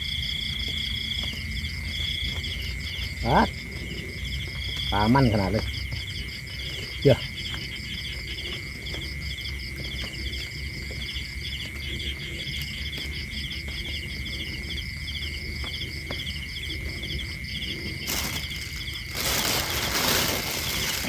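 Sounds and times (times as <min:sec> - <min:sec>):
crickets and insects chirping: 0:00.0 - 0:21.0.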